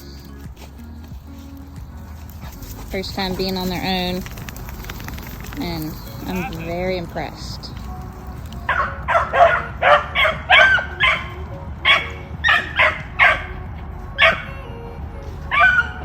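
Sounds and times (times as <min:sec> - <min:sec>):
beagles barking: 0:01.3 - 0:14.6, 0:15.3 - 0:16.0.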